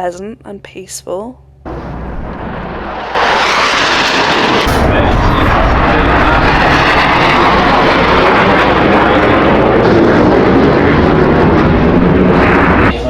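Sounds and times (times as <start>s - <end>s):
fighter jet flying overhead: 1.7s - 13.0s.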